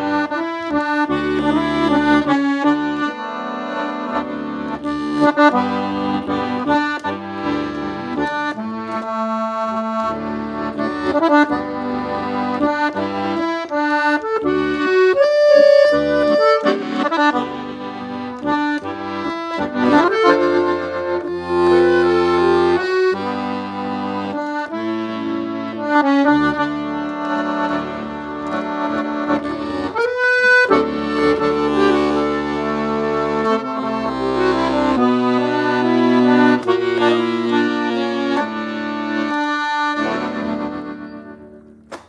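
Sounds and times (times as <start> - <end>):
piano accordion playing: 0.0 - 42.0.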